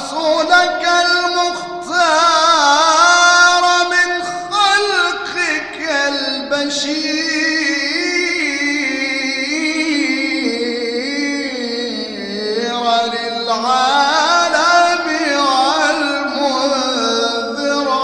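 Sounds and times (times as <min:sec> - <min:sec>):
man chanting melismatic notes: 0:00.0 - 0:18.0.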